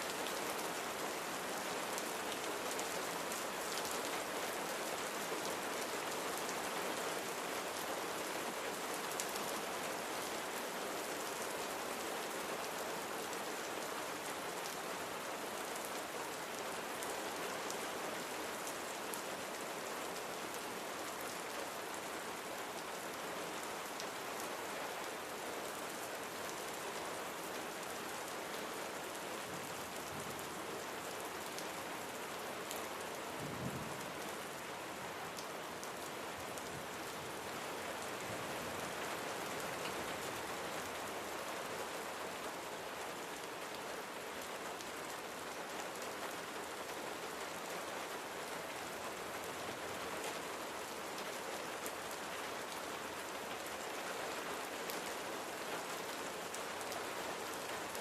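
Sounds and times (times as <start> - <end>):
rain falling on surfaces: 0.0 - 58.0.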